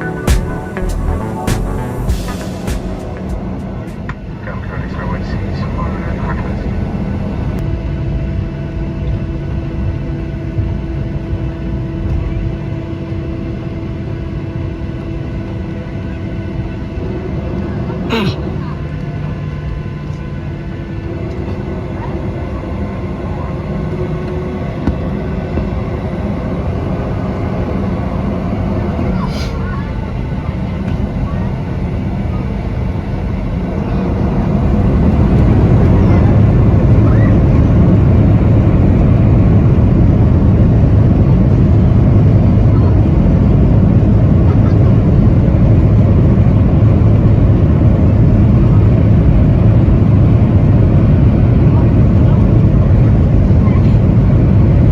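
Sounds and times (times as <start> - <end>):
airplane cabin engine noise: 0.0 - 54.9.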